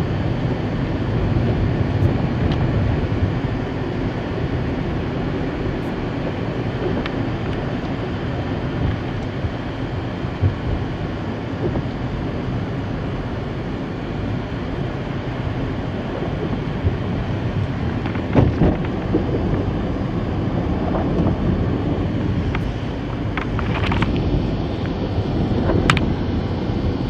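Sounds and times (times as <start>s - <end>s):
vehicle road and engine rumble: 0.0s - 27.0s.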